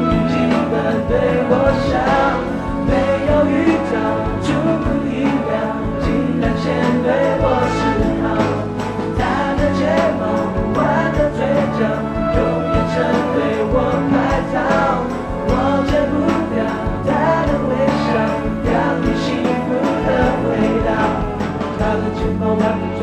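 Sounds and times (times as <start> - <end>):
live rock band playing: 0.0 - 23.0
man singing: 0.0 - 23.0.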